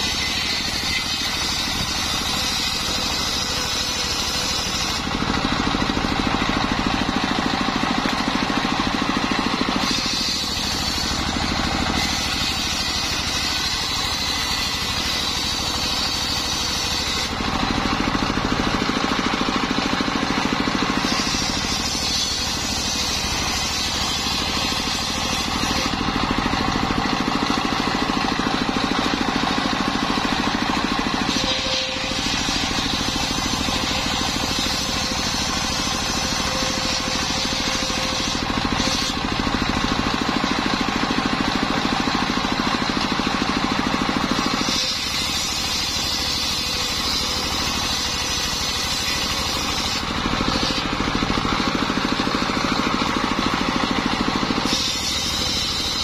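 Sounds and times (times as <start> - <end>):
circular saw cutting wood: 0.0 - 56.0
diesel engine running: 0.0 - 56.0.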